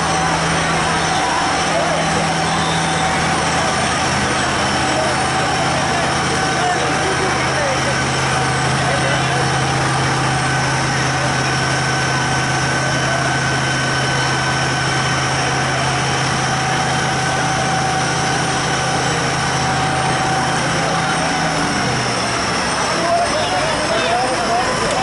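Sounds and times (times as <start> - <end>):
faint even whine: 0.0 - 25.0
large engine idling: 0.0 - 25.0.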